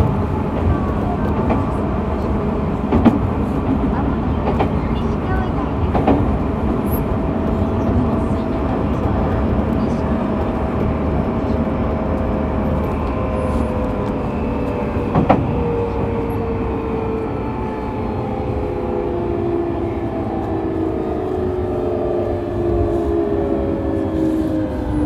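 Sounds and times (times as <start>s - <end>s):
wheel and rail rumble: 0.0s - 25.0s.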